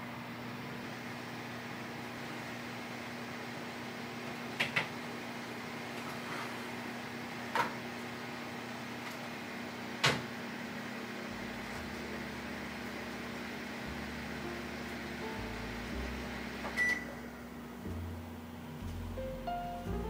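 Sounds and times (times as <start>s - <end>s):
oven humming: 0.0s - 20.0s.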